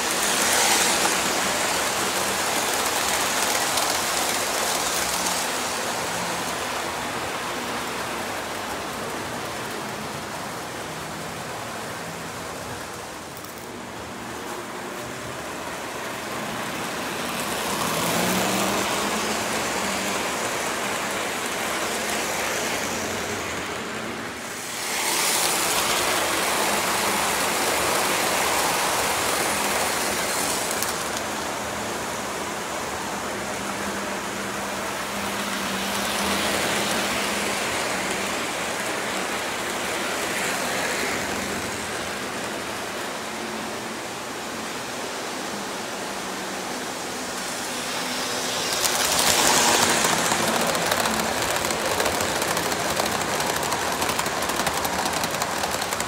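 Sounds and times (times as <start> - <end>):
model train wheels on rail: 0.0 - 56.0.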